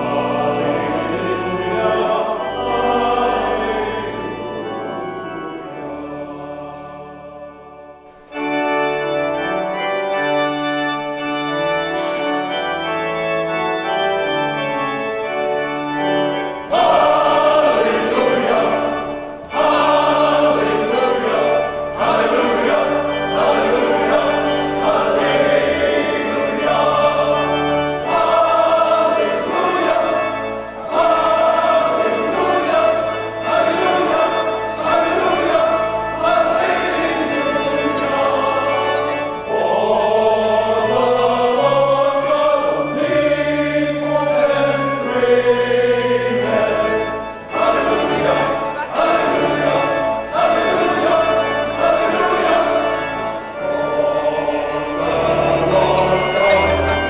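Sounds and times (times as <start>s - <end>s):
choir singing: 0.0s - 57.0s
organ playing held chords: 0.0s - 57.0s.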